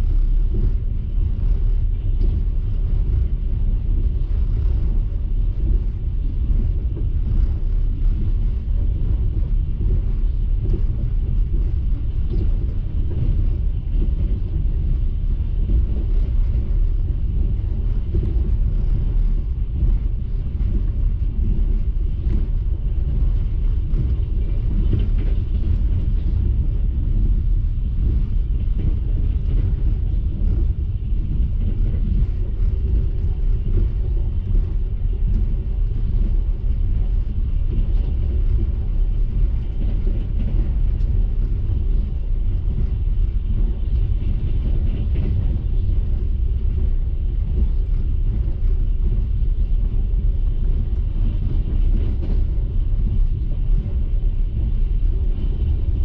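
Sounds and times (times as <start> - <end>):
train rumbling inside carriage: 0.0 - 56.0.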